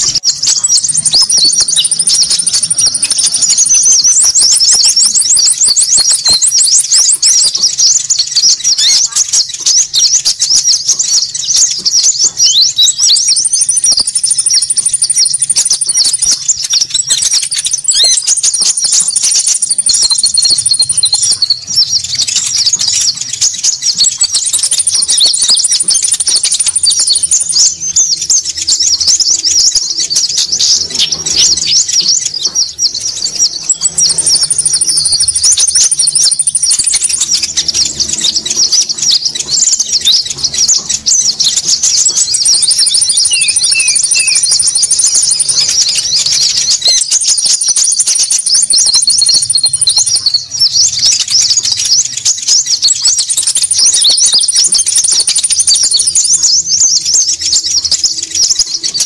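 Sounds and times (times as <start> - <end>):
high bird trill: 0.0 - 59.0
small birds chattering: 0.0 - 59.0.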